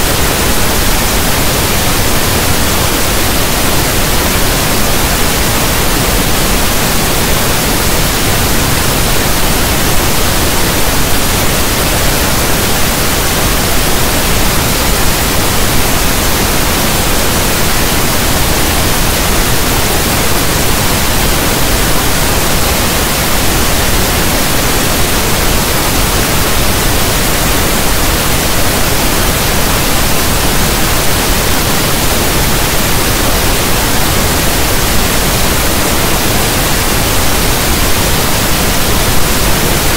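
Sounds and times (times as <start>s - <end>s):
loud steady hiss: 0.0s - 39.9s.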